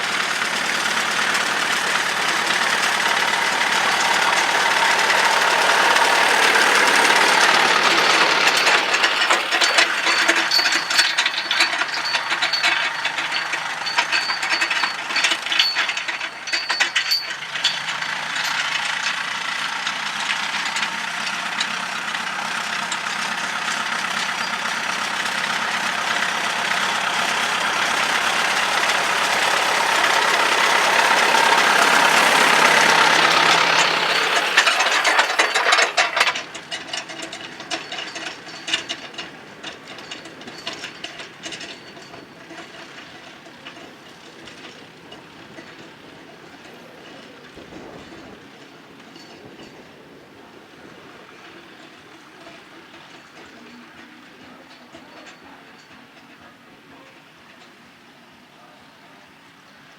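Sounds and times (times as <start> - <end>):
rattling and clicking: 0.0 - 56.6
tractor running under load: 0.0 - 59.9.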